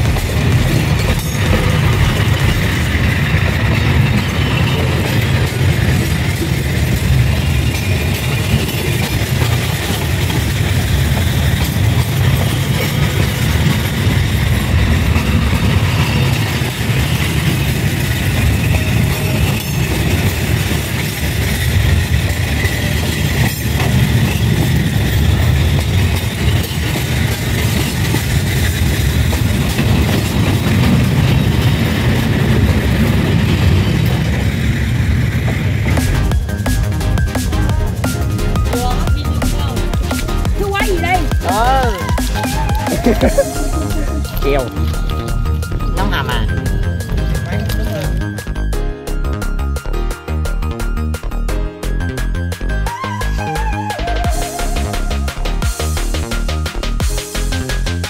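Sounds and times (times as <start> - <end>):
train rumbling past on rails: 0.0 - 58.0.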